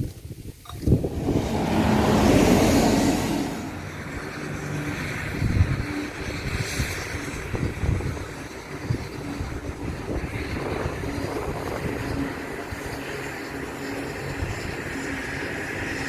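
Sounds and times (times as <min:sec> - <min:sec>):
wind buffeting microphone: 0:00.0 - 0:16.0
vehicle rumble: 0:00.7 - 0:13.8.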